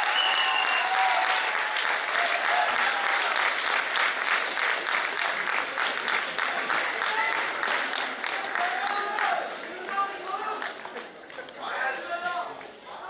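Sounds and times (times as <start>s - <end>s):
audience clapping: 0.0s - 11.8s.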